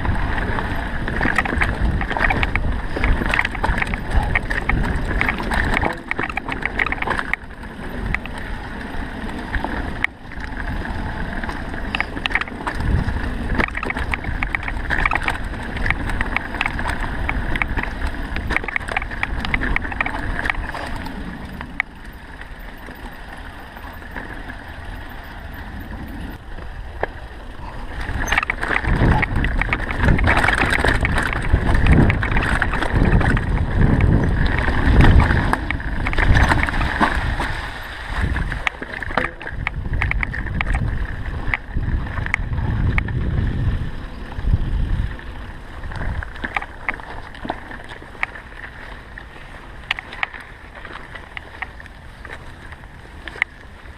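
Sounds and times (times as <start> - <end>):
crackles and rattles: 0.0 - 53.9
wind buffeting microphone: 0.0 - 53.9.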